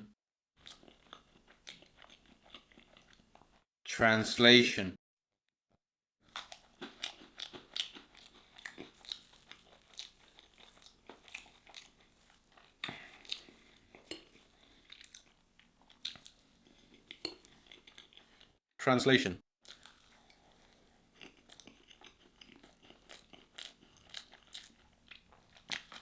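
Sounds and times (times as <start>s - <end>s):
person chewing crunchy food: 0.6s - 3.7s, 6.2s - 18.7s, 19.6s - 26.0s.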